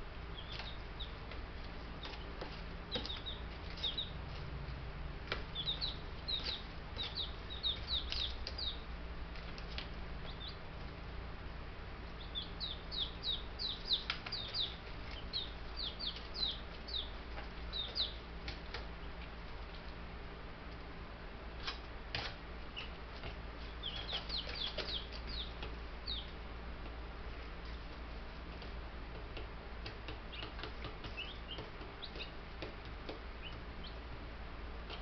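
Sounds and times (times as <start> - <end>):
steady low hum: 0.0 - 35.0
chicks peeping: 0.2 - 11.0, 12.0 - 20.0, 21.6 - 34.2.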